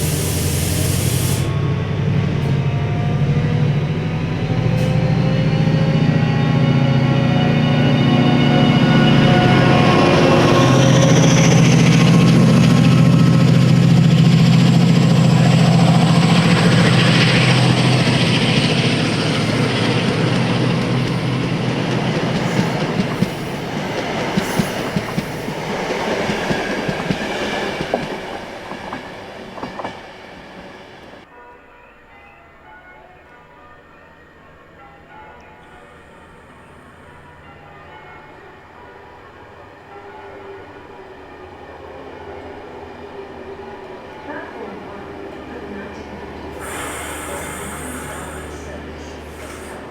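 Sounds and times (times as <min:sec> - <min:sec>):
diesel locomotive engine drone: 0:00.0 - 0:31.3, 0:35.4 - 0:49.9.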